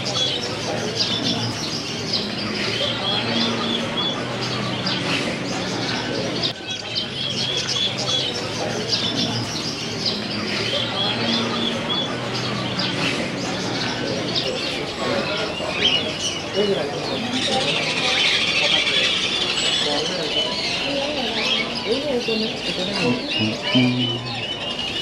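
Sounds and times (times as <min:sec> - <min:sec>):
caged birds chirping: 0:00.0 - 0:25.0.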